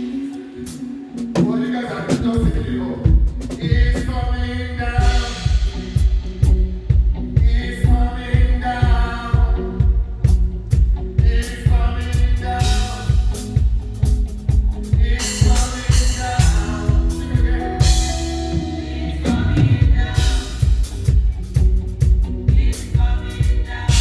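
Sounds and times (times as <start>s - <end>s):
person singing: 0.0s - 6.0s, 7.3s - 13.8s, 14.8s - 24.0s
praise band music: 0.0s - 24.0s.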